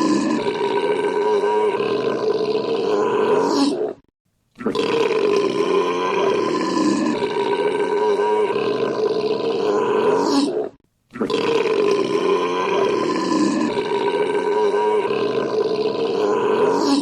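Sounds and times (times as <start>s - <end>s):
man belching: 0.0s - 3.6s, 4.6s - 10.4s, 11.1s - 17.0s.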